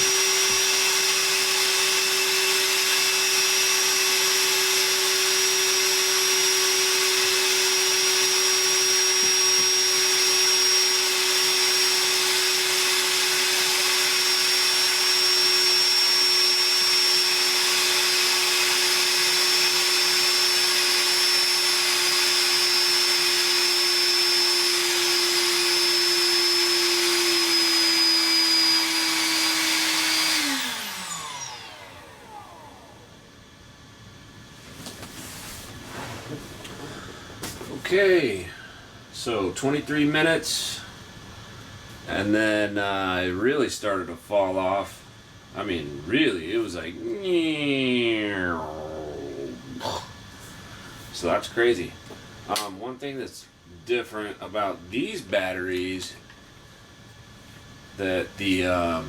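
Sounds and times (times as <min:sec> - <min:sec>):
wet dry vacuum running: 0:00.0 - 0:40.9, 0:44.1 - 0:52.8.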